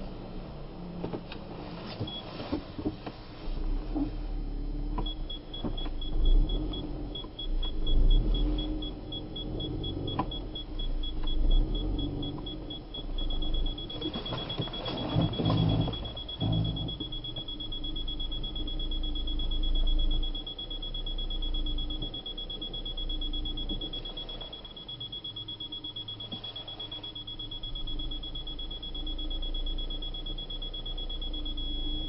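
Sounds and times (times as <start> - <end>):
engine with high-pitched whine: 0.0 - 32.0.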